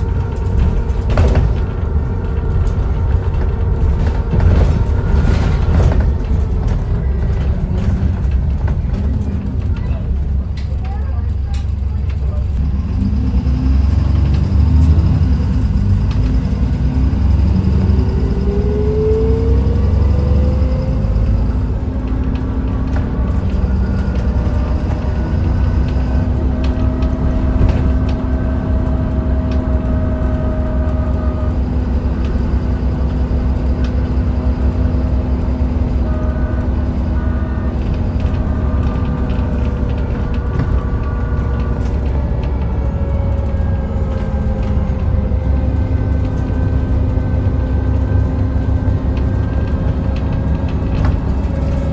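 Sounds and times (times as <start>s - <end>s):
bus engine rumble: 0.0s - 51.9s
drivetrain whine: 0.0s - 51.9s.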